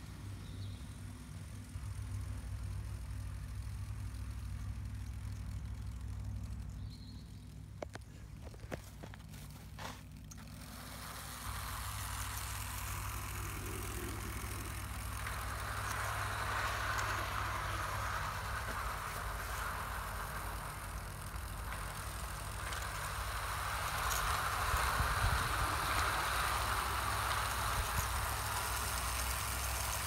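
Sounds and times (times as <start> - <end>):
low hum: 0.0 - 30.0
model train wheels rolling on rails: 0.0 - 30.0.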